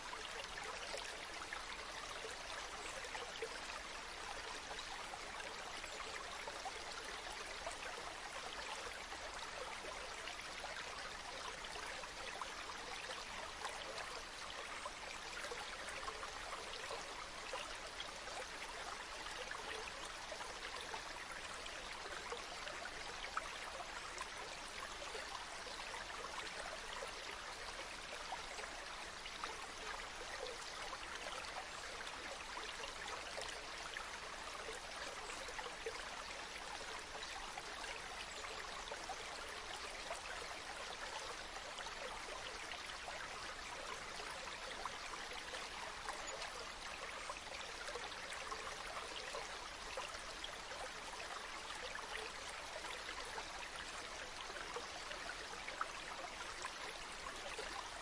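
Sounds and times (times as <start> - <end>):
water flowing steadily: 0.0 - 58.0.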